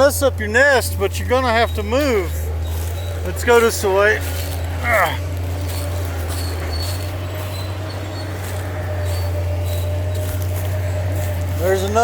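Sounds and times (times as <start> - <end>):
engine whine: 0.0 - 12.0
machine engine droning: 0.0 - 12.0.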